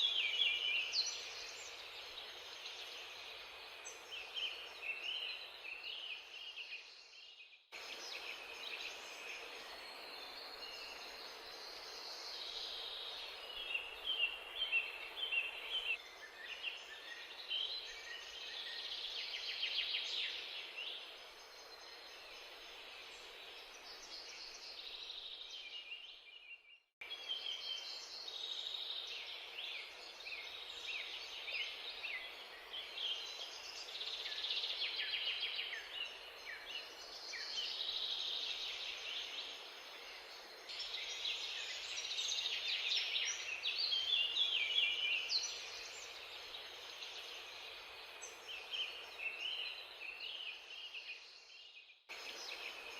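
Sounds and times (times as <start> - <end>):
faint background hiss: 0.0 - 52.9
small birds twittering: 0.0 - 52.9.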